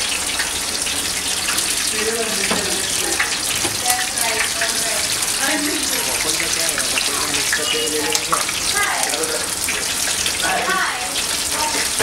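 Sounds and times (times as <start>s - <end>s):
deep fryer oil bubbling: 0.0s - 12.0s.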